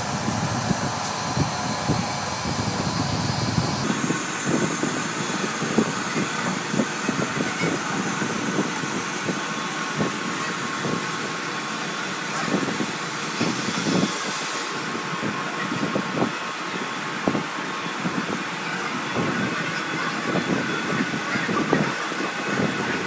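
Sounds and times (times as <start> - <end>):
compressed air hissing: 0.0 - 18.5.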